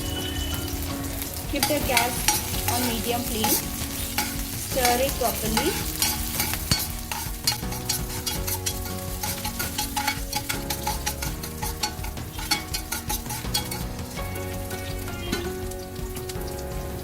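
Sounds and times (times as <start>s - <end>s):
garlic frying in hot oil: 0.0s - 17.0s
spatula stirring in pan: 0.0s - 17.0s.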